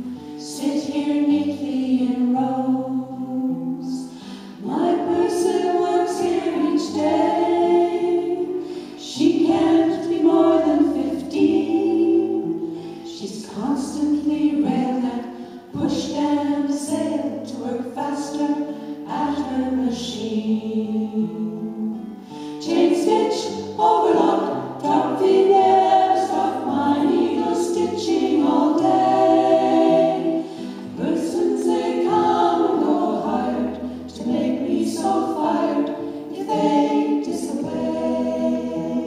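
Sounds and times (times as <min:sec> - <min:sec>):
acoustic guitar: 0:00.0 - 0:39.0
women singing in harmony: 0:00.0 - 0:39.0.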